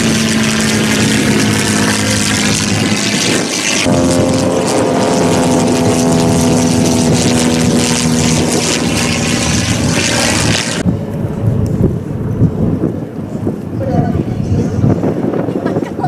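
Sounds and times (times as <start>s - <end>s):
plane engine and propeller droning: 0.0s - 16.0s.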